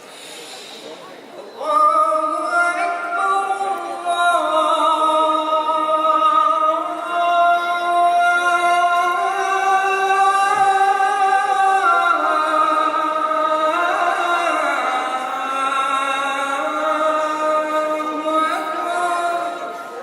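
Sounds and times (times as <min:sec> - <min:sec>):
person chanting call to prayer: 0:01.6 - 0:20.0.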